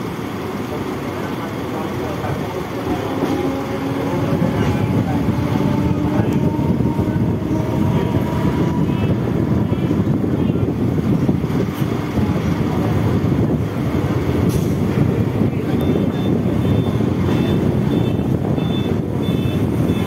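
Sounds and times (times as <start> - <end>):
train wheels on rails: 0.0 - 20.0
wind noise: 3.0 - 20.0.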